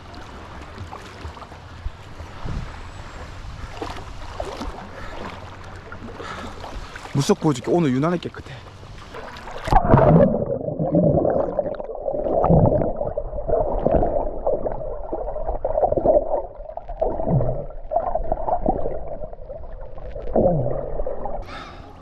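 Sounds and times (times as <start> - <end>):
muffled underwater water sloshing: 0.0 - 22.0.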